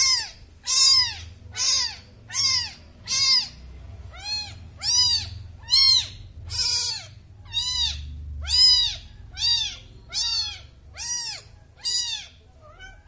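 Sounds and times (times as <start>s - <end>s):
kitten mewing: 0.0s - 13.0s.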